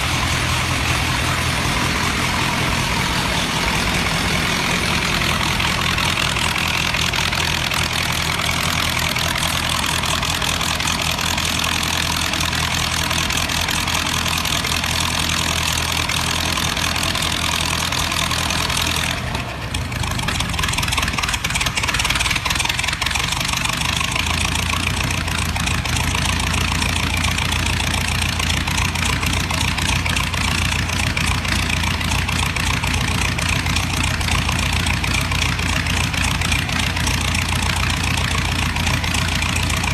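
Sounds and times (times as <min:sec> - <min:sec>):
old car engine running: 0:00.0 - 0:39.9.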